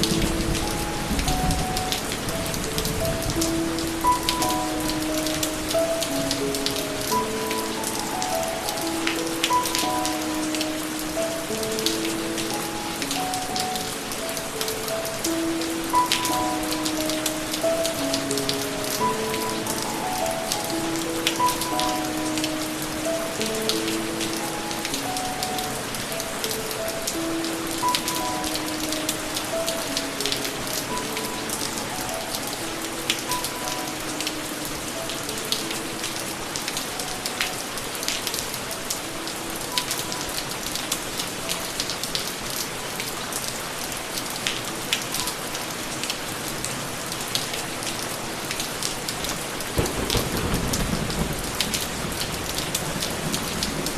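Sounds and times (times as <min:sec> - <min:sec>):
soft slow melody: 0:00.0 - 0:53.9
steady rain falling: 0:00.0 - 0:53.9.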